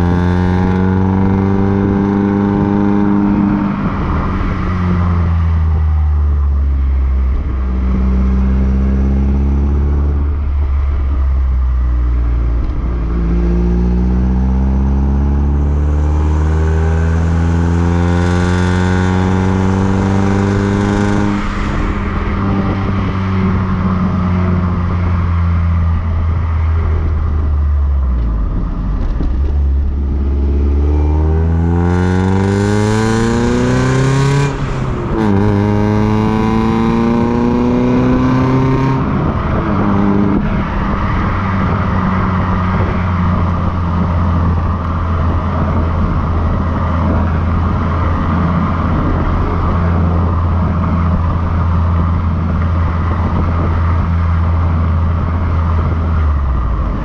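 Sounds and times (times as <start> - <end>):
car exhaust revving: 0.0 - 57.0.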